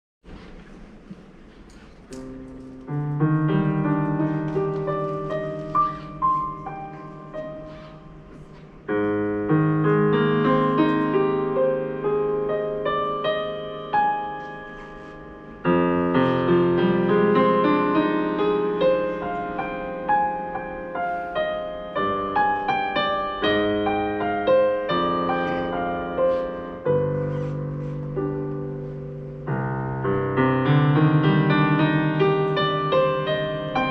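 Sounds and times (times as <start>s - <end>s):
slow solo piano piece: 1.9s - 33.9s.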